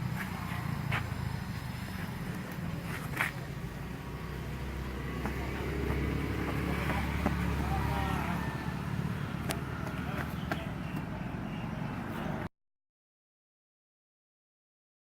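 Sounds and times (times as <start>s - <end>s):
motor vehicle rumbling: 0.0s - 12.5s.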